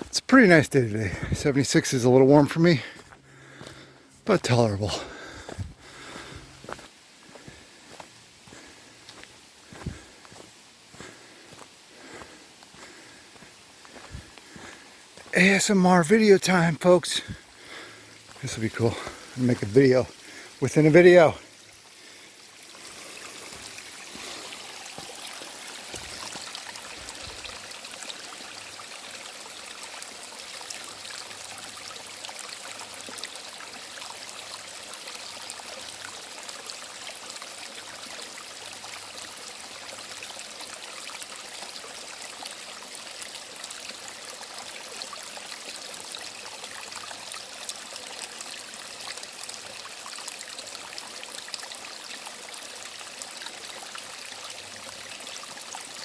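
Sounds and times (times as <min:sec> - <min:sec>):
stream trickling over rocks: 0:00.0 - 0:56.0.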